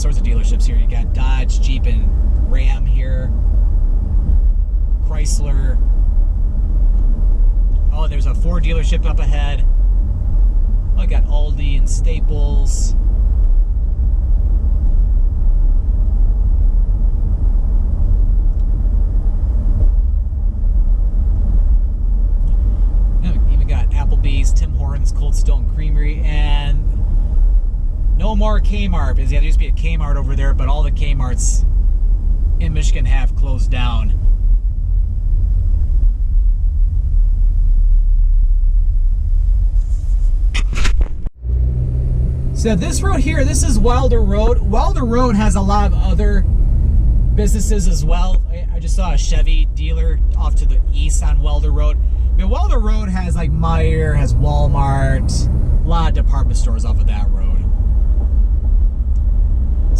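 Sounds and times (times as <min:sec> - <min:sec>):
car tyre and engine rumble: 0:00.0 - 0:59.9.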